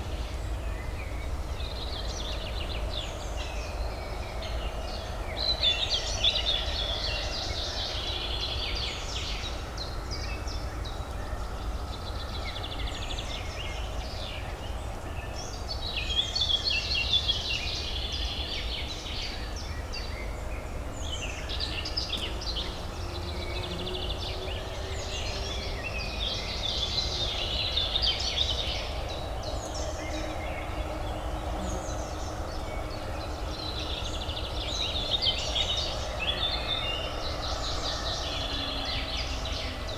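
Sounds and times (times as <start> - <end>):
songbirds chirping and singing: 0.7 - 39.9.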